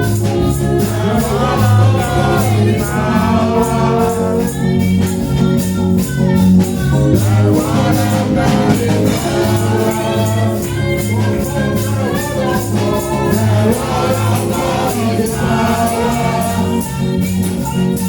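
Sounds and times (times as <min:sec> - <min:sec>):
choir singing: 0:00.0 - 0:05.3, 0:07.0 - 0:18.0
live band playing gospel: 0:00.0 - 0:18.0
pulsing bass line: 0:00.0 - 0:18.0.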